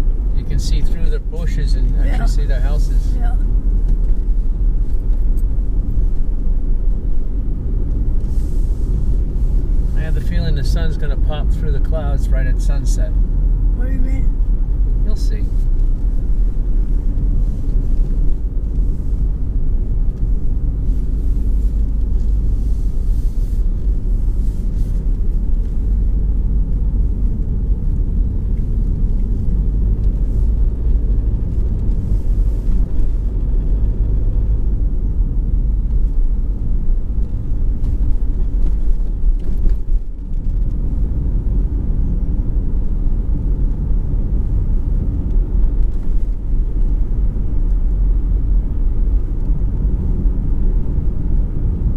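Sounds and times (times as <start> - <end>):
car driving low rumble: 0.0 - 51.9.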